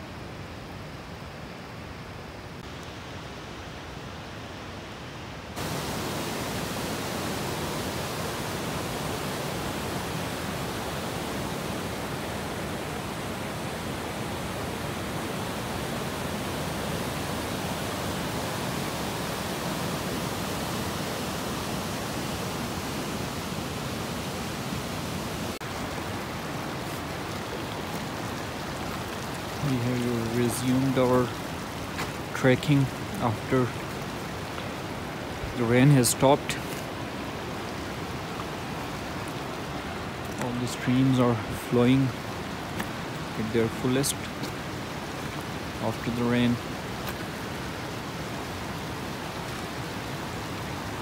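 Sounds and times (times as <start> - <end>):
waterfall: 0.0 - 51.0
stream rushing over stones: 2.6 - 51.0.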